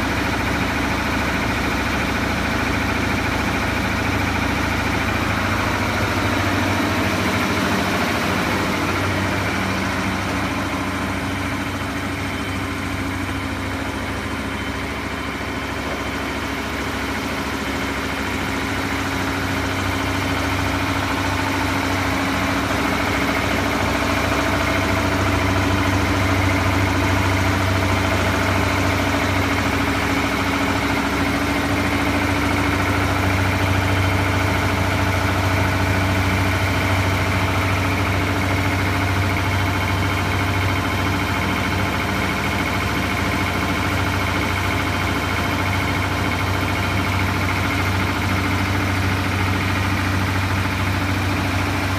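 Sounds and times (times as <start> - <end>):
compressor humming: 0.0 - 51.9.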